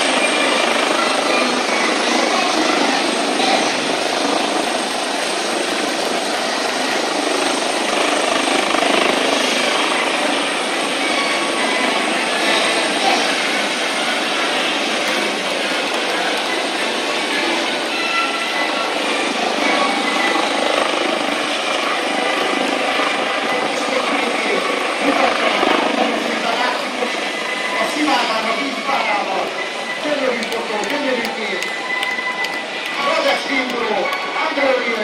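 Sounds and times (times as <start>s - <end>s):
helicopter rotor and turbines: 0.0s - 35.0s.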